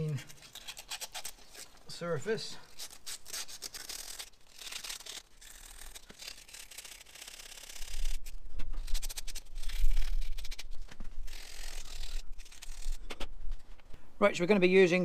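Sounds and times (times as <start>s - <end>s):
emery tape scraping on steel: 0.0s - 13.8s.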